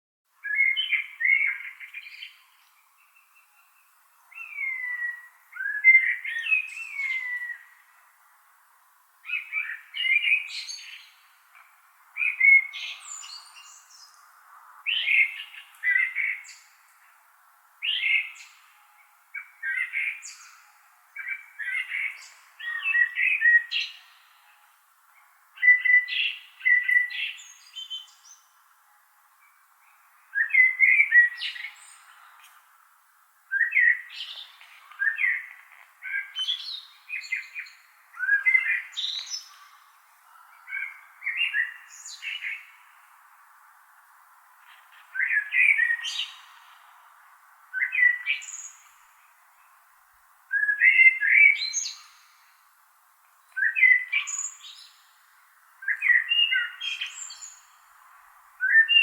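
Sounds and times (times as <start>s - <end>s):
blackbird singing: 0.4s - 7.9s, 9.2s - 11.3s, 12.1s - 17.2s, 17.8s - 28.6s, 29.4s - 32.6s, 33.5s - 43.1s, 44.6s - 46.8s, 47.7s - 49.8s, 50.5s - 52.6s, 53.5s - 57.9s, 58.6s - 59.0s.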